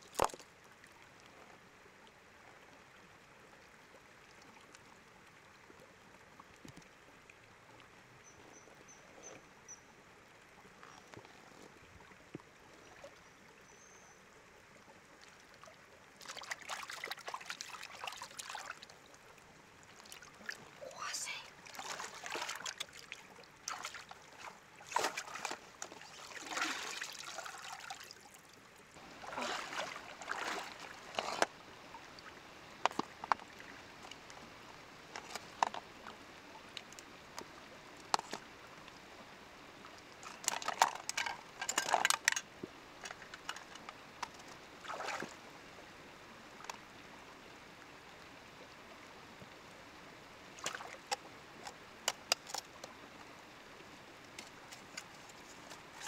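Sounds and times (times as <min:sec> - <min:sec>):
water splashing and trickling: 0:00.0 - 0:49.7, 0:50.4 - 0:56.0
faint steady hiss: 0:00.0 - 0:56.0.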